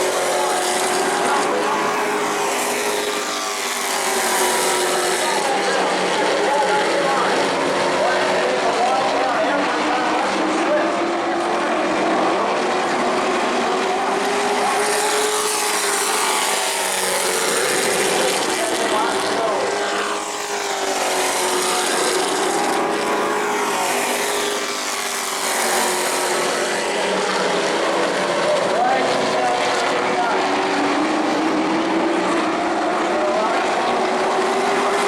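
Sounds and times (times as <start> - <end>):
race truck engines passing: 0.0 - 35.0.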